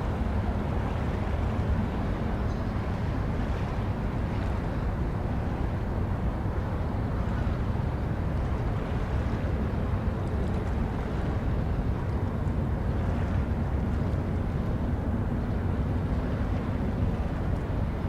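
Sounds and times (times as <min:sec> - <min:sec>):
faint constant hum: 0:00.0 - 0:18.0.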